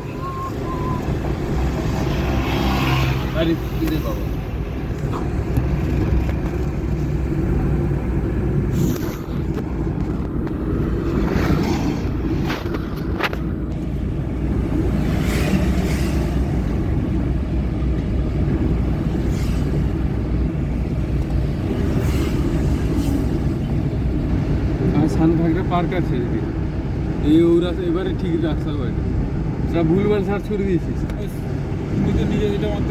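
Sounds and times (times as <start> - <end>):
vehicle engine and road rumble: 0.0 - 32.9.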